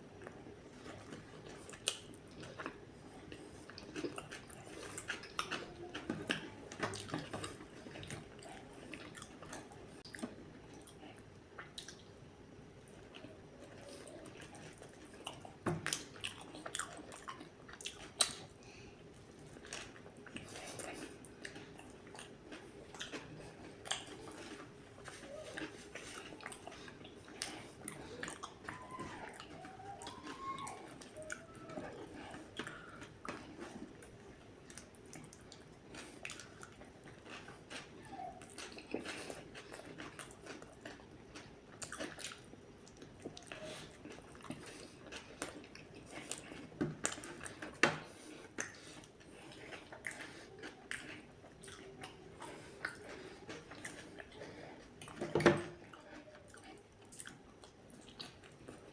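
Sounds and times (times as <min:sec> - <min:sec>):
chewing and biting burger: 0:00.2 - 0:12.1, 0:12.9 - 0:58.9.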